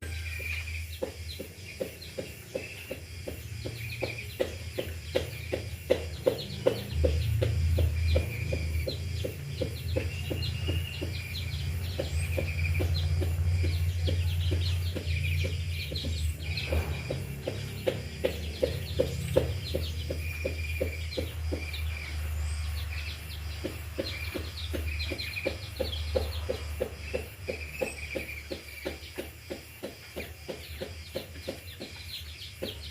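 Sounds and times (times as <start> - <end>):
small birds chirping: 0.0 - 32.9
steady low hum: 0.0 - 32.9.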